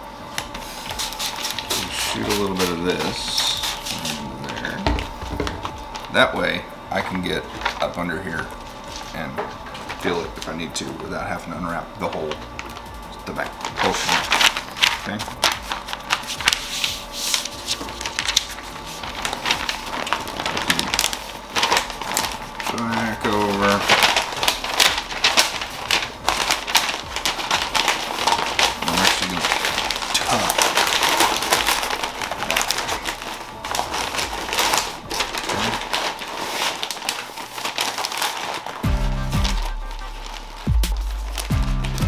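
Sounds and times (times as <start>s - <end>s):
music: 0.0s - 42.0s
paper crackling and rustling: 0.0s - 42.0s.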